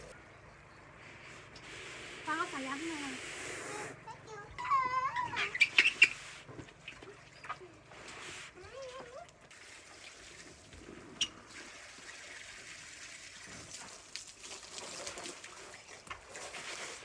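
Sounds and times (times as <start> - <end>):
water from hose splashing: 1.0 - 17.0.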